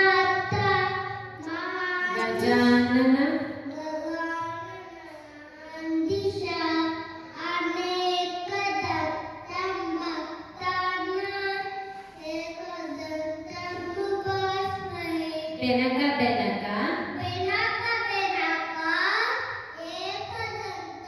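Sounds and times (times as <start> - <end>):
boy chanting a prayer: 0.0 - 15.6, 17.1 - 21.0.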